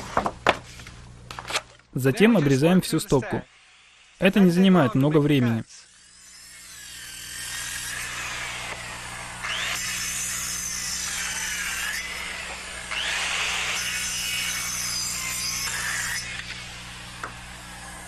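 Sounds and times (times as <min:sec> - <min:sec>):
circular saw cutting wood: 0:02.3 - 0:18.0.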